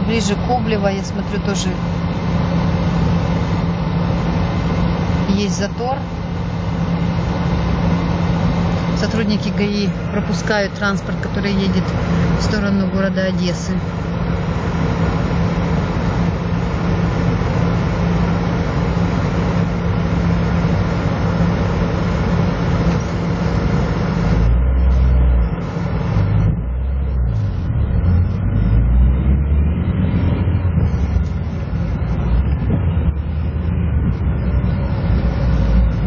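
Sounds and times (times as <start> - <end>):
low steady hum: 0.0 - 36.0
low uneven rumble: 0.0 - 36.0.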